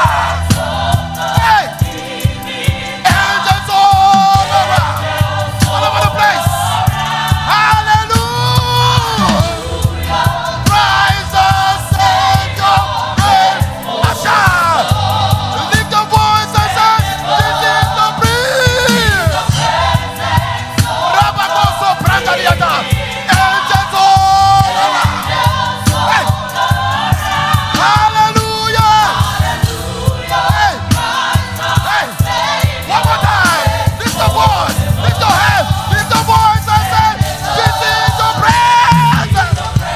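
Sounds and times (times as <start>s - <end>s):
bass line: 0.0s - 39.9s
drums beating: 0.0s - 39.9s
gospel choir singing: 0.0s - 39.9s
live band: 0.0s - 39.9s.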